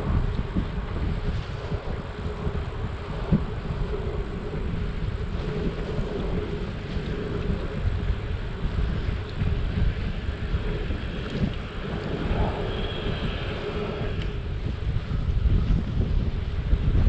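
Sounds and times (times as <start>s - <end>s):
bicycle road rumble: 0.0s - 17.0s
faint steady hum: 0.0s - 17.0s
wind buffeting microphone: 0.0s - 17.0s.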